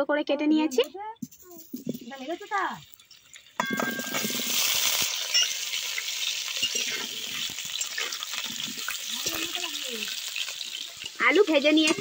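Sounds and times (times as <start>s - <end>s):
potatoes sizzling in oil: 1.3s - 12.0s.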